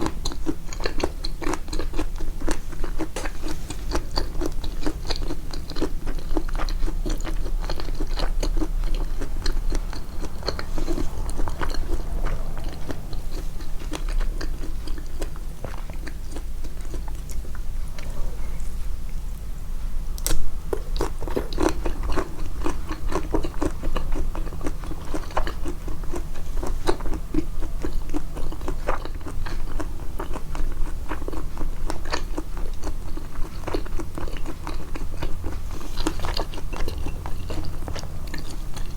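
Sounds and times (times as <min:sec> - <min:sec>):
chewing and biting food: 0:00.0 - 0:18.2, 0:20.2 - 0:38.9.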